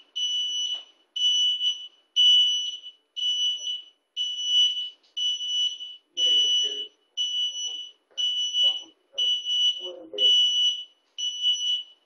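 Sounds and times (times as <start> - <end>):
reverse warning beeps: 0.2 - 12.0.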